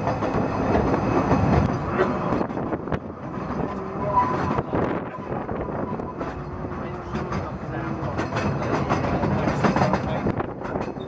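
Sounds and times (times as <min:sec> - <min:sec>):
train wheels rumbling and clicking: 0:00.0 - 0:11.0.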